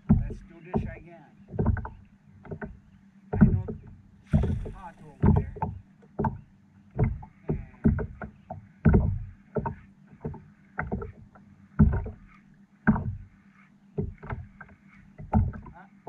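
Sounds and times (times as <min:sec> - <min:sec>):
faint low hum: 0:00.0 - 0:16.0
knocks and thumps on boat: 0:00.0 - 0:16.0.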